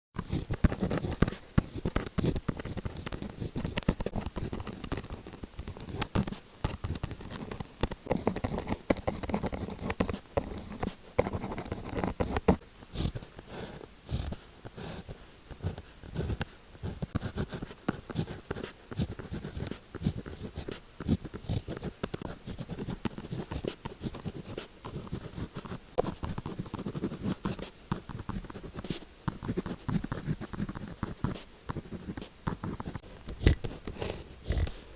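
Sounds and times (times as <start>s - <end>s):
pen scratching and tapping on paper: 0.2s - 34.8s.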